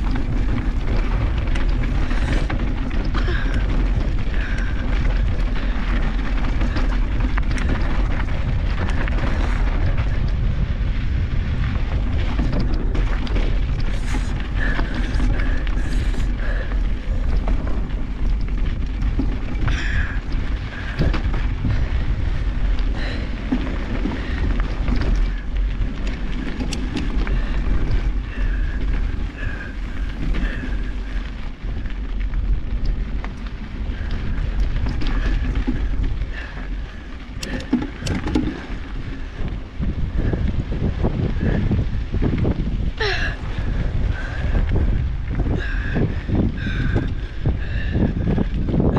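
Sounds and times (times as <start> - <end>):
bike rattling over bumps: 0.0 - 48.9
wind buffeting camera: 0.0 - 48.9.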